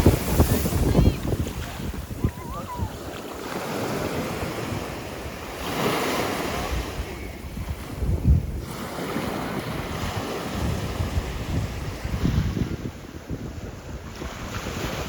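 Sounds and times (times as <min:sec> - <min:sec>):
ocean surf washing up beach: 0:00.0 - 0:15.0
wind buffeting microphone: 0:00.0 - 0:15.0.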